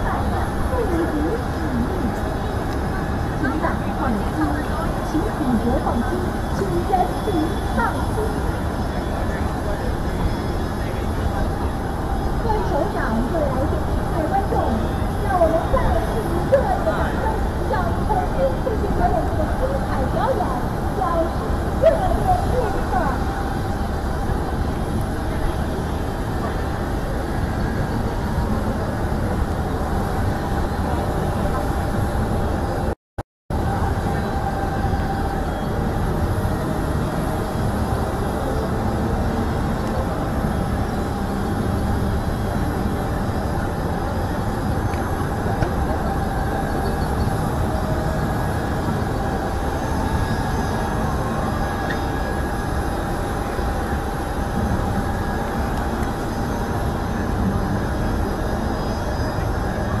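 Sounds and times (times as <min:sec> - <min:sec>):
distant aircraft engine whine: 0:00.0 - 1:00.0
low airfield rumble: 0:00.0 - 1:00.0.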